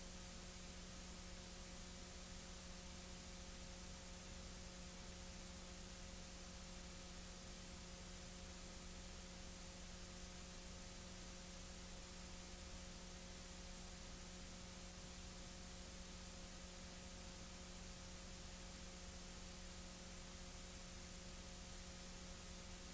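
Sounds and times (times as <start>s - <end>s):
electrical hum and hiss: 0.0s - 22.9s.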